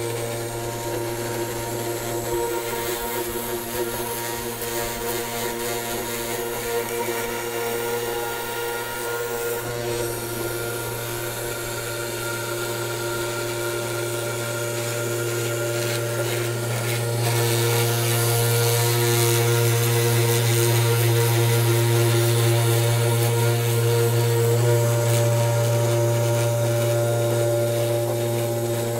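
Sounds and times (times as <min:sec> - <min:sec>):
bit rasping into wood: 0:00.0 - 0:28.9
router spindle motor hum: 0:00.0 - 0:28.9.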